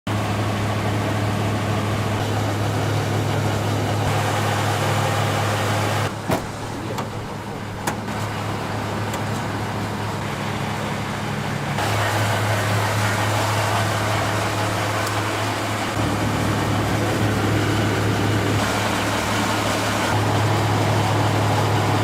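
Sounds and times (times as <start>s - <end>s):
helicopter running: 0.1s - 6.2s, 7.2s - 22.0s.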